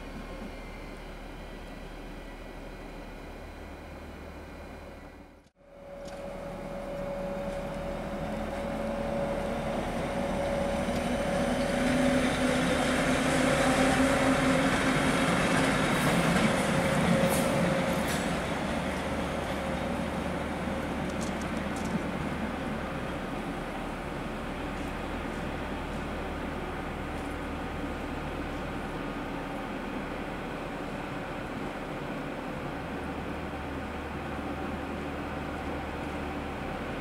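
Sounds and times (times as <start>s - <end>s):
electric locomotive passing: 0.0s - 37.0s.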